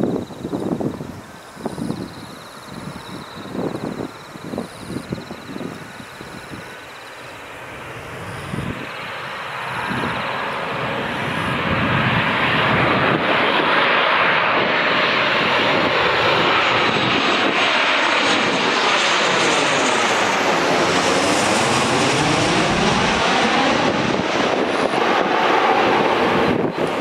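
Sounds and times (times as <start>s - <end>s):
jet airplane passing overhead: 0.0s - 27.0s.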